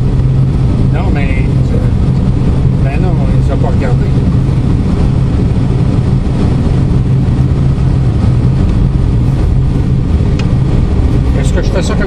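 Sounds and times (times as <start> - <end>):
constant low hum: 0.0 - 12.0
rush of airflow: 0.0 - 12.0.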